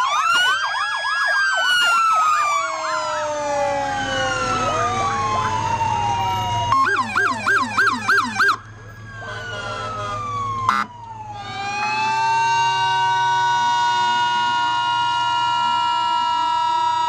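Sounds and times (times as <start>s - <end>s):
emergency sirens wailing: 0.0s - 17.0s
siren fast yelp: 0.0s - 17.0s.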